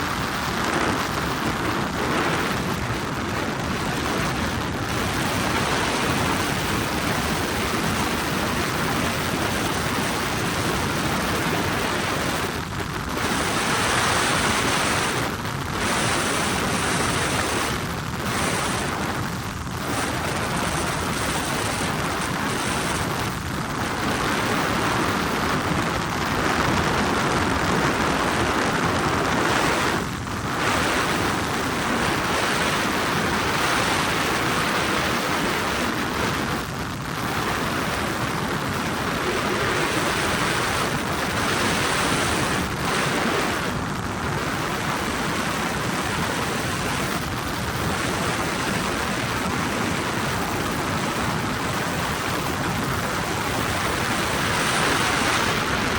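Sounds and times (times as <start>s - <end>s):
helicopter engine and rotors: 0.0s - 55.9s.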